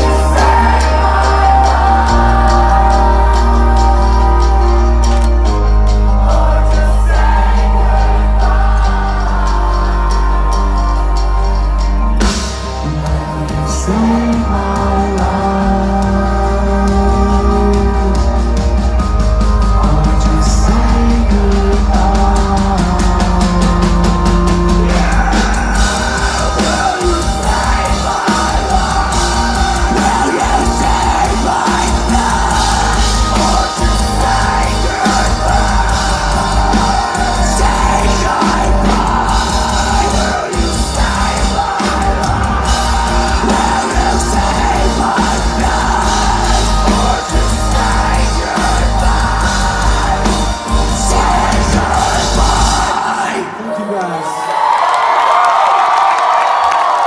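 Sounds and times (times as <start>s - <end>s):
yelled vocals: 0.0s - 11.6s, 19.7s - 57.0s
bass guitar: 0.0s - 53.2s
heavy distorted guitars: 0.0s - 54.4s
drums: 0.0s - 57.0s.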